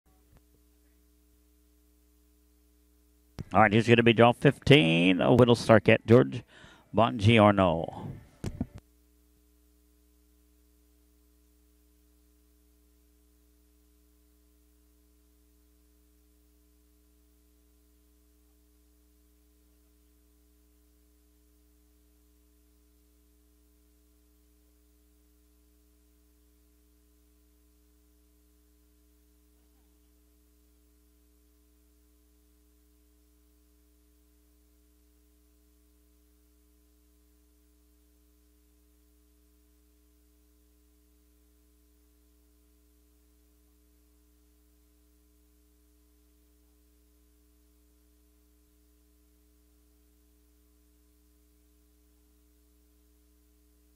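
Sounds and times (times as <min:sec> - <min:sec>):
faint electrical hum: 0:00.1 - 0:53.9.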